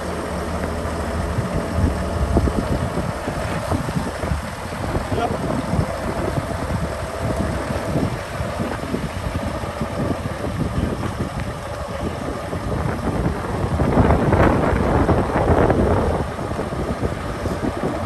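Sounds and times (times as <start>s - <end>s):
tractor engine idling: 0.0s - 18.0s
wind buffeting microphone: 0.0s - 18.0s.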